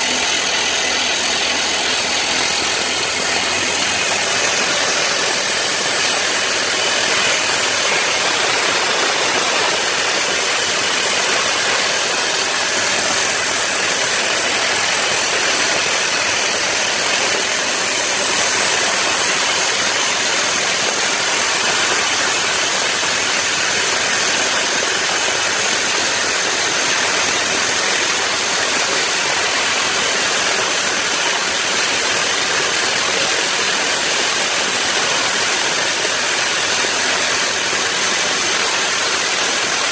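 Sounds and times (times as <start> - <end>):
hydraulic drill rig running: 0.0 - 39.9.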